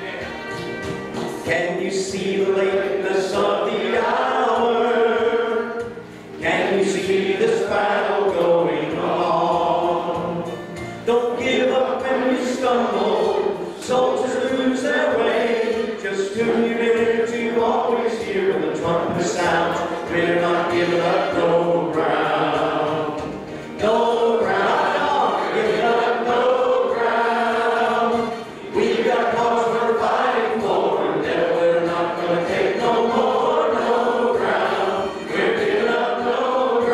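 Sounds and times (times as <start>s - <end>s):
congregation singing a hymn: 0.0s - 36.9s
person singing into microphone: 1.4s - 36.9s.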